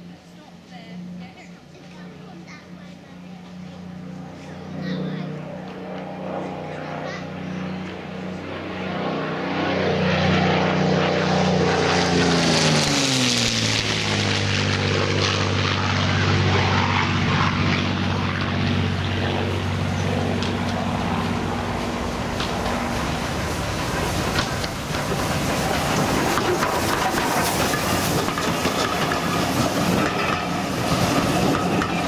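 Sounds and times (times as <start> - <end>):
propeller plane engine drone: 0.0 - 32.0.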